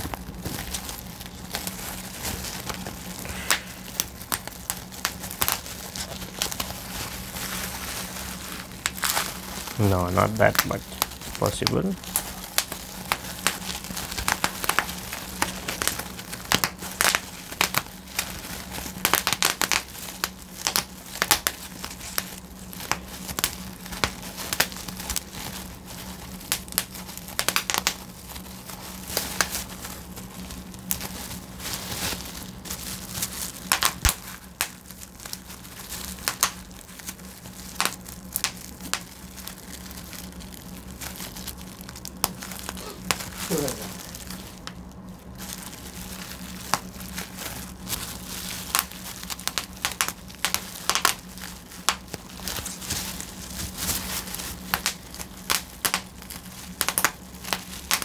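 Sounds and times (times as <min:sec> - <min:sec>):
bubble wrap popping: 0:00.0 - 0:58.0
plastic film crinkling: 0:00.0 - 0:58.0.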